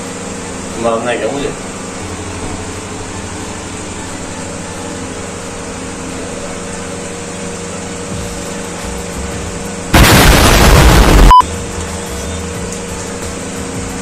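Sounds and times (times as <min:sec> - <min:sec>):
machine hissing and humming: 0:00.0 - 0:14.0.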